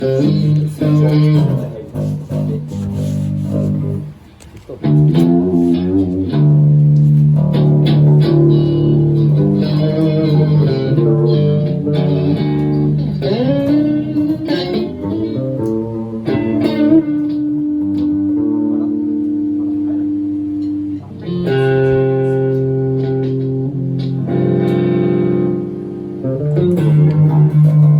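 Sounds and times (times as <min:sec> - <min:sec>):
bass guitar: 0:00.0 - 0:27.9
electric guitar bending notes: 0:00.0 - 0:27.9.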